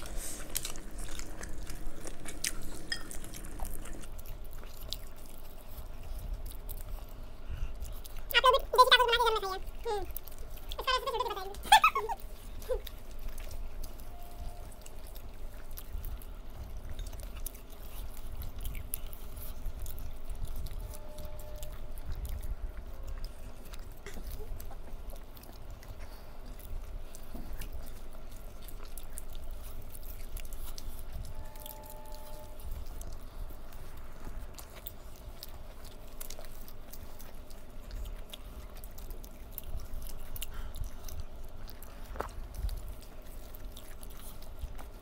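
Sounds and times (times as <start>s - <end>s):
people chewing and smacking: 0.0s - 45.0s.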